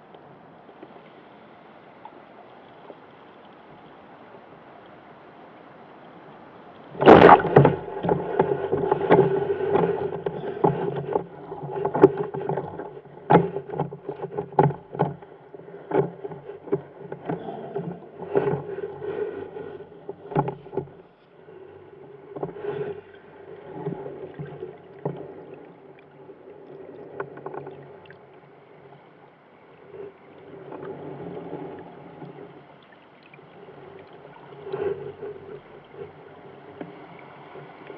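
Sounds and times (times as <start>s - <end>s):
rushing water underwater: 0.0s - 37.9s
muffled underwater knocks and clicks: 7.0s - 37.9s.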